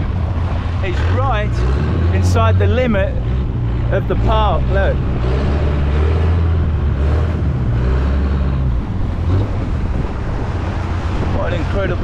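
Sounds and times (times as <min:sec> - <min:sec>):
boat engine droning: 0:00.0 - 0:12.0
water rushing past hull: 0:00.0 - 0:12.0.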